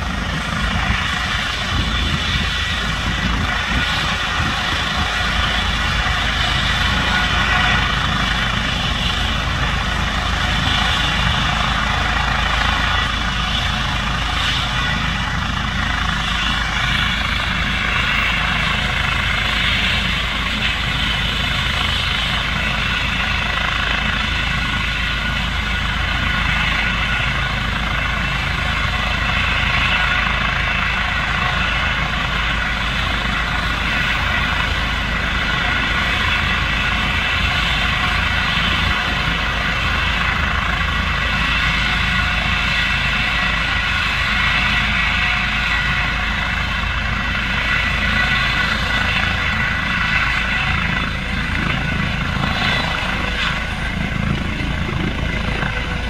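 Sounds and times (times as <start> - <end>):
helicopter turbine whine: 0.0 - 56.0
low rotor rumble: 0.0 - 56.0.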